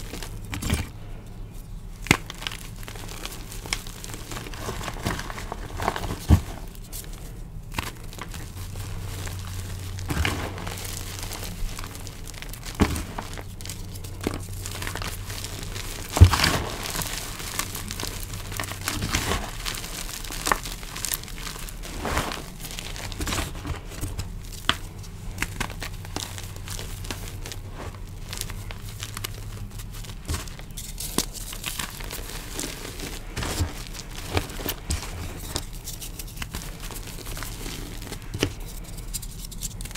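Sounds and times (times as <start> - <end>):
hands crushing chalk powder: 0.0 - 39.9.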